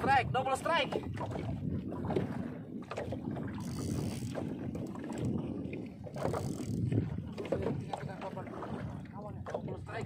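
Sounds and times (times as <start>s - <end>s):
water moving around boat: 0.0s - 10.0s
wind rumbling on microphone: 0.0s - 10.0s.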